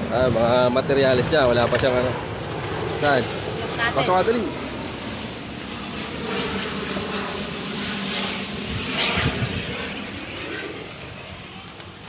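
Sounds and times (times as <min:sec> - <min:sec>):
airplane engines droning overhead: 0:00.0 - 0:12.0.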